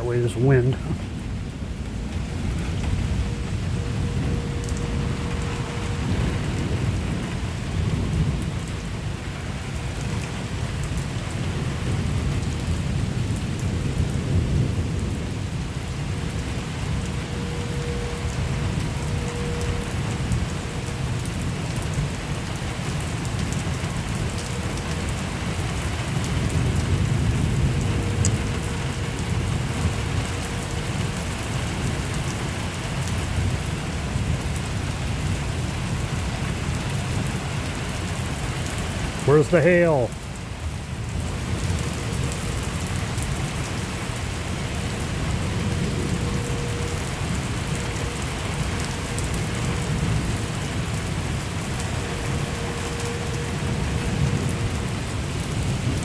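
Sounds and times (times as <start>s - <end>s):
low thunder rumble: 0.0s - 39.3s, 40.1s - 56.0s
steady rain: 0.0s - 56.0s
wind: 0.0s - 56.0s.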